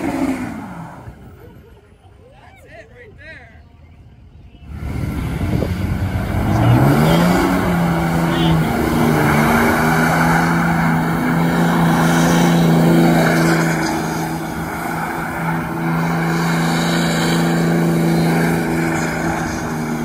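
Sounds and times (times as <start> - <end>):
diesel engine revving high: 0.0 - 1.4, 4.6 - 20.0
tires spinning on pavement: 0.0 - 2.3, 4.6 - 20.0.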